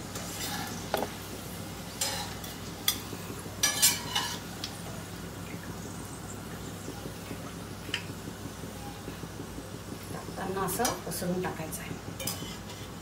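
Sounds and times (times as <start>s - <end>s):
faint oil sizzle: 0.0s - 13.0s.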